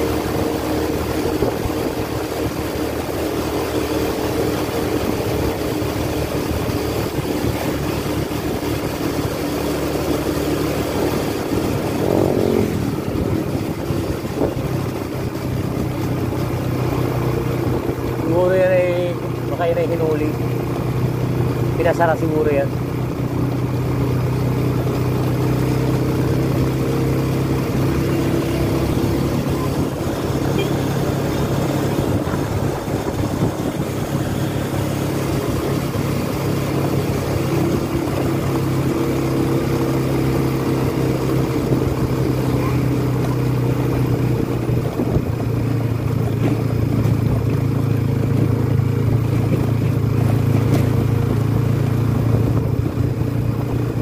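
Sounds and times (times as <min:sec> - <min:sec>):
road and wind noise: 0:00.0 - 0:54.0
vehicle engine cruising: 0:00.0 - 0:54.0.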